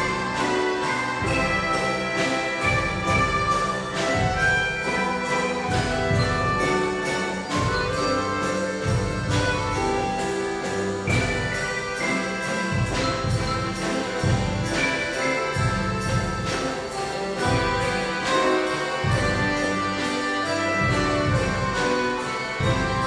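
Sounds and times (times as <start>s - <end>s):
accordions playing: 0.0s - 23.0s
piano: 0.0s - 23.0s
steady drum beat: 0.0s - 23.0s.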